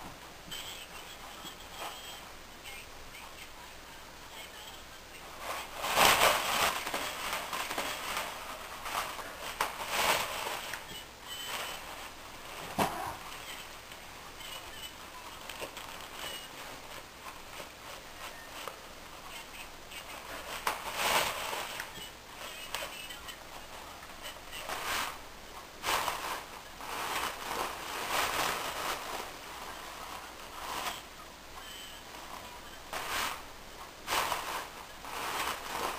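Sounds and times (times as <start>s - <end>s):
paper tissue rustling and crinkling: 4.6s - 35.9s.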